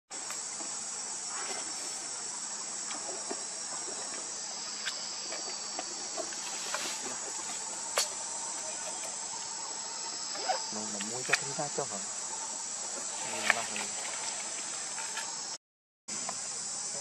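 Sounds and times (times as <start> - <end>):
insects droning: 0.1 - 17.0.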